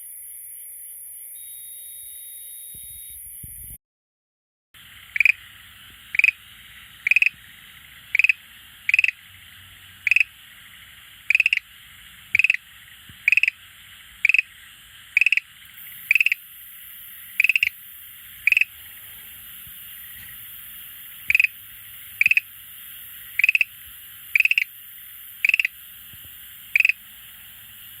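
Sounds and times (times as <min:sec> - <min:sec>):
tree frog calling: 0:04.8 - 0:28.0.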